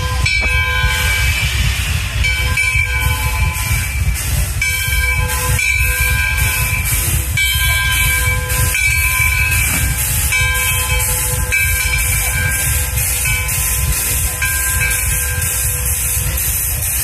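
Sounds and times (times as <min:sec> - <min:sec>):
steam hiss: 0:00.0 - 0:17.0
train wheels rumbling: 0:00.0 - 0:17.0.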